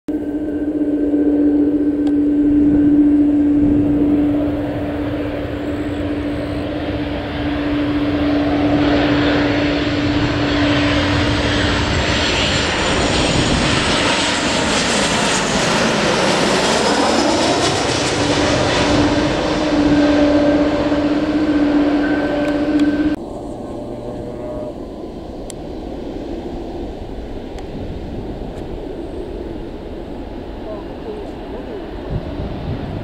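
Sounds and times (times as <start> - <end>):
steady low hum: 0.1 - 16.3, 17.3 - 33.0
airliner passing overhead: 0.1 - 33.0.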